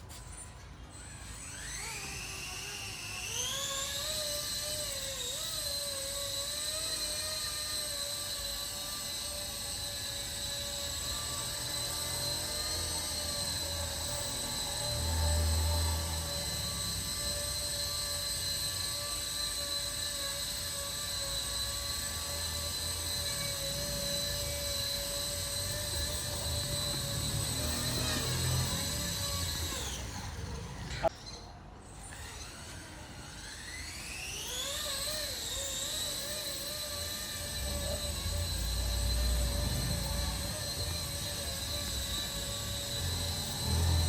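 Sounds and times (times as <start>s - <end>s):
rc helicopter motor whine: 0.0s - 44.0s.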